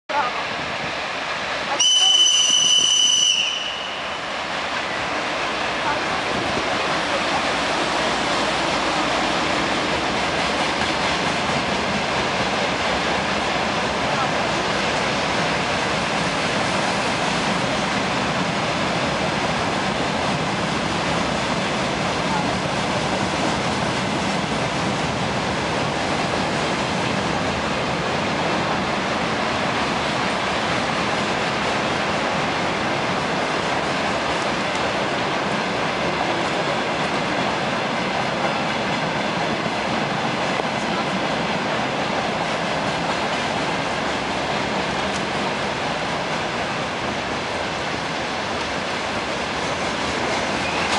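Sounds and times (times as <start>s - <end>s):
freight train rail noise: 0.1s - 50.9s.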